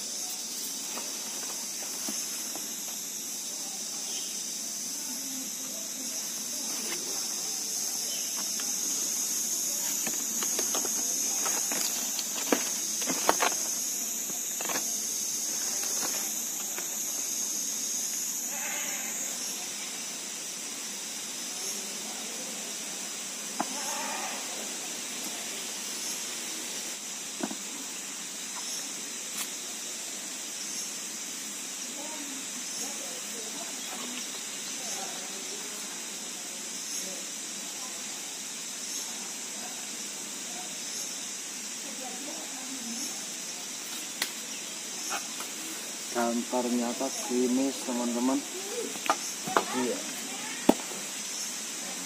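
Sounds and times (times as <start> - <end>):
steady high-pitched hiss: 0.0 - 52.0.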